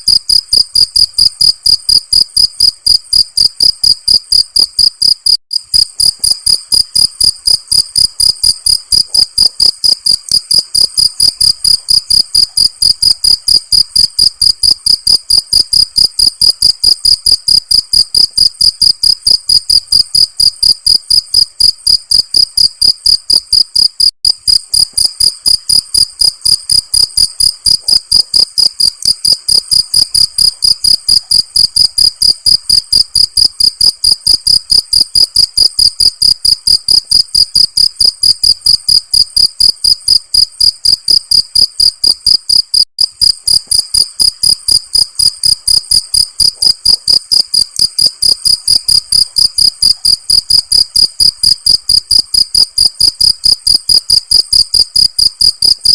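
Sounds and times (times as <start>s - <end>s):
cricket chirping: 0.1s - 55.9s.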